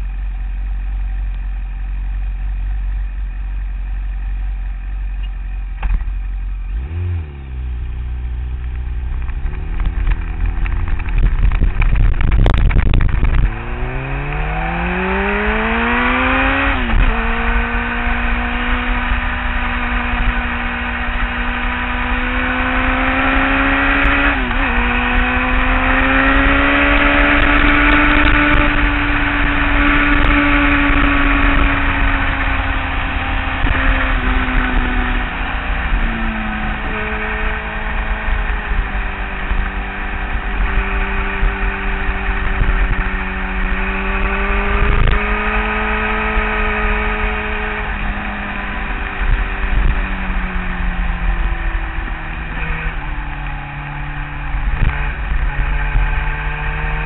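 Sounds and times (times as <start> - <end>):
loud rough engine noise: 0.0 - 57.0
motorcycle engine accelerating: 0.0 - 57.0.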